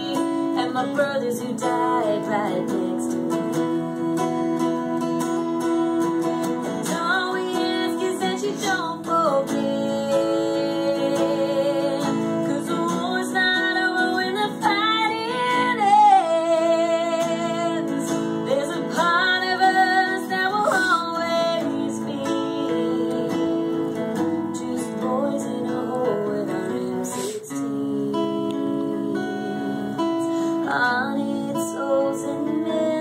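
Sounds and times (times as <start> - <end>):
acoustic guitar strummed and picked: 0.0 - 33.0
woman singing: 0.0 - 33.0.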